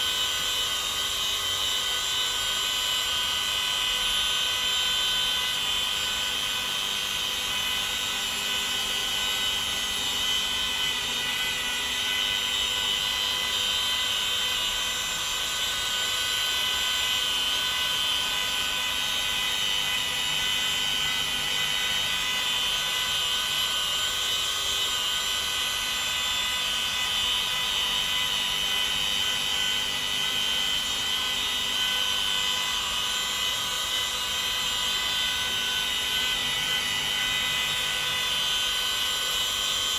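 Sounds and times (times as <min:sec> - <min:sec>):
rotary polisher motor whine: 0:00.0 - 0:39.9.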